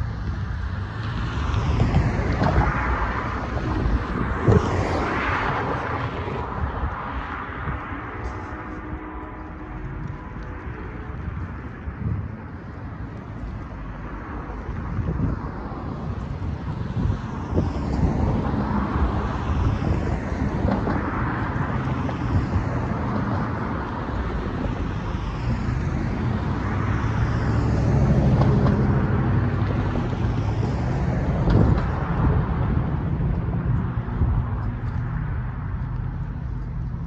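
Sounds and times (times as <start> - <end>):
cars driving over railroad crossing: 0.0 - 37.0
tyre and engine noise: 0.0 - 37.0.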